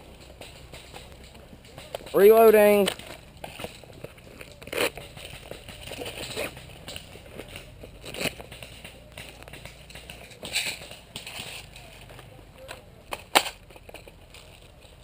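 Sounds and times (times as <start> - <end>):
rustling and clicks of gear: 0.0 - 15.0
sharp cracks: 0.0 - 15.0.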